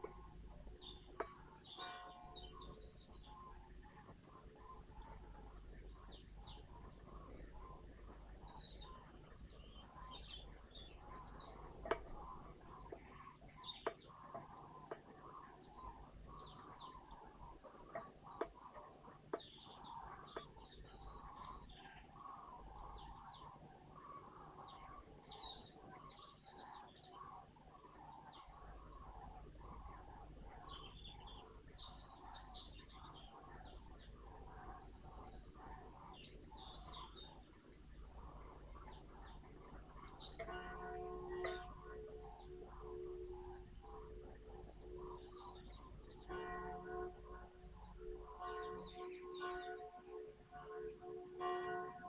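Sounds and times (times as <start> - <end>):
low steady hum: 0.0 - 52.0
songbirds chirping: 0.0 - 52.0.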